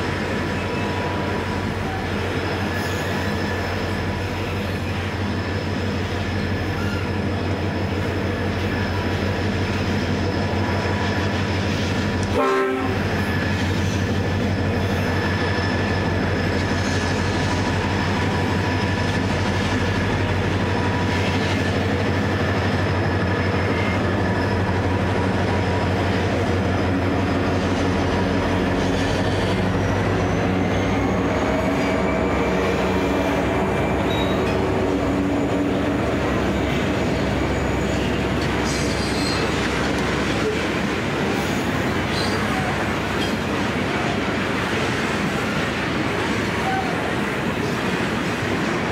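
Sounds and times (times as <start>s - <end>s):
locomotive engines humming: 0.0s - 48.9s.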